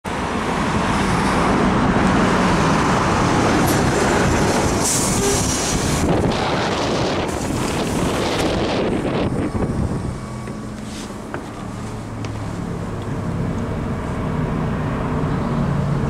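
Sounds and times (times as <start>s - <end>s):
trolleybus rumbling: 0.0s - 16.0s.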